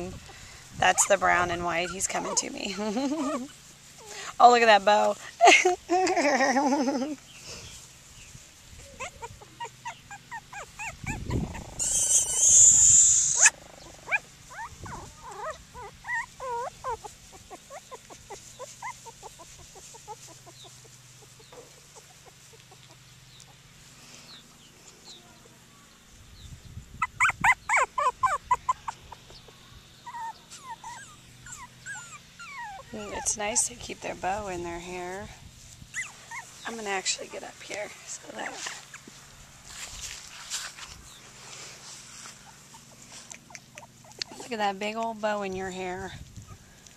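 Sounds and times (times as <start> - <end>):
puppies whimpering and yipping: 0.0 - 7.2, 8.3 - 23.7, 26.9 - 39.1, 42.2 - 46.6.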